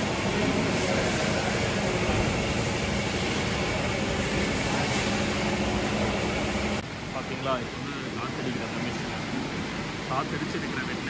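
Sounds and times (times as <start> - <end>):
car wash machine running: 0.0 - 11.0.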